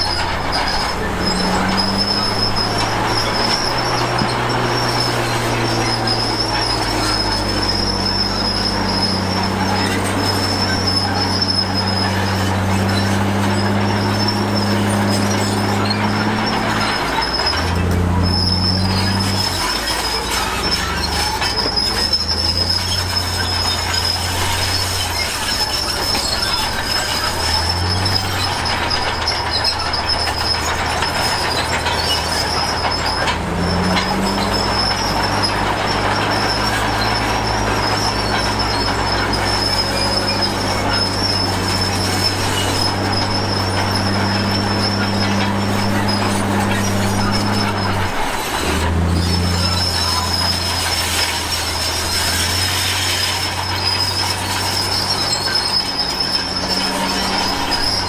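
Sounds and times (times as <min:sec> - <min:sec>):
bulldozer diesel engine: 0:00.0 - 0:58.0
tracks squealing: 0:00.0 - 0:58.0.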